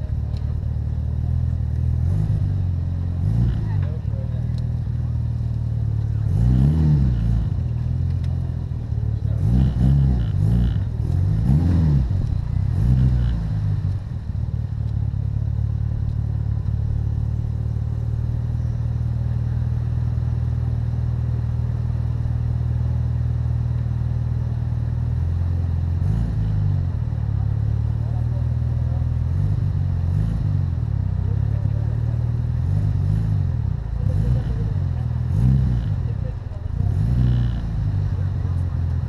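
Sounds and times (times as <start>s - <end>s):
car engine revving and idling: 0.0s - 39.0s.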